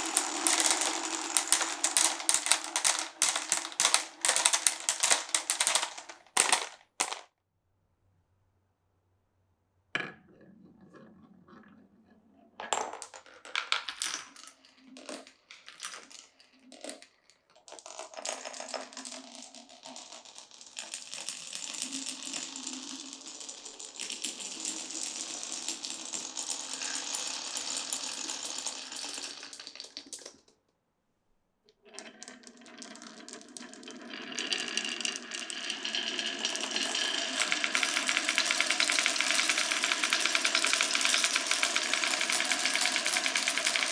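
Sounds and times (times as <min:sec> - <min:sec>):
marbles clacking on track: 0:00.0 - 0:07.3, 0:12.7 - 0:17.0, 0:17.7 - 0:30.4, 0:31.9 - 0:43.9
marbles rolling along track: 0:00.0 - 0:07.3, 0:12.6 - 0:30.5, 0:31.8 - 0:43.9.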